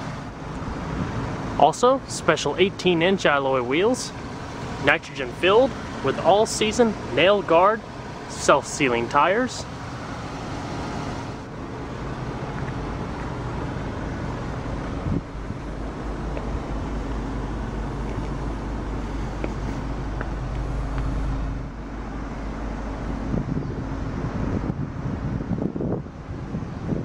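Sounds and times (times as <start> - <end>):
car engine idling: 0.0 - 26.6.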